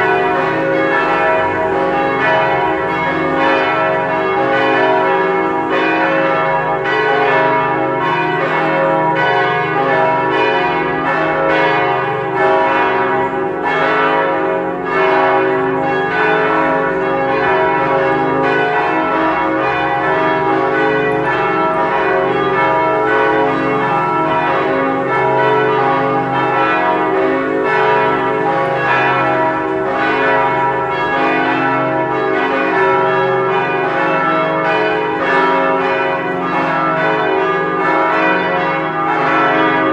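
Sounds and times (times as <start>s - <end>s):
church bells ringing in a peal: 0.0s - 39.9s.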